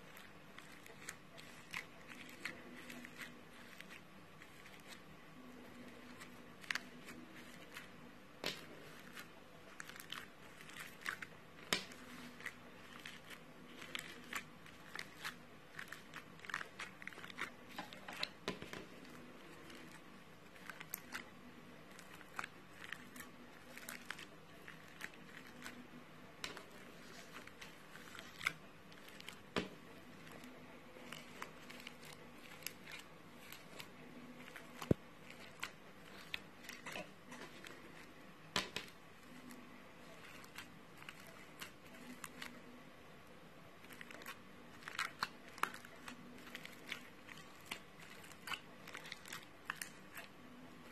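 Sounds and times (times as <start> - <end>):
slime crackling and popping: 5.9 - 42.6, 43.8 - 50.9.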